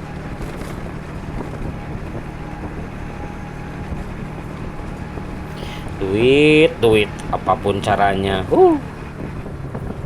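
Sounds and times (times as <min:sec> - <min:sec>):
engine hum: 0:00.0 - 0:10.0
road noise: 0:00.0 - 0:10.0.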